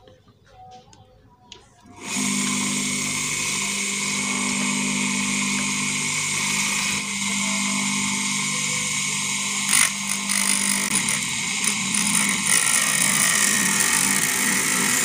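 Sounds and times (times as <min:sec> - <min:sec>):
grinder motor whining: 0:01.9 - 0:15.0.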